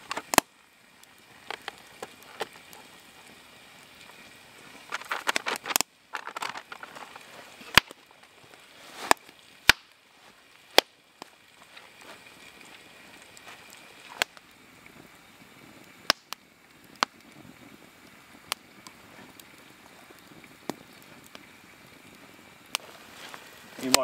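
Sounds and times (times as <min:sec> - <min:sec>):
campfire crackling and popping: 0:00.0 - 0:24.0
campfire hiss: 0:00.0 - 0:24.0.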